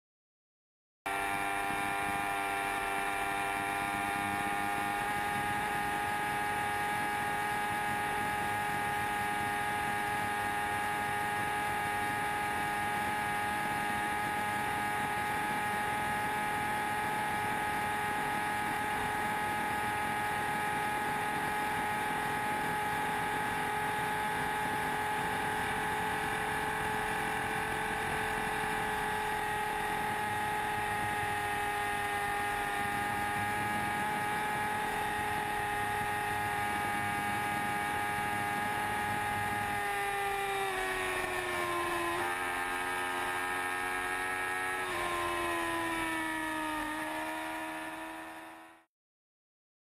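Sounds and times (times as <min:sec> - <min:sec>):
motorcycle engine high revs whine: 0:01.1 - 0:48.9.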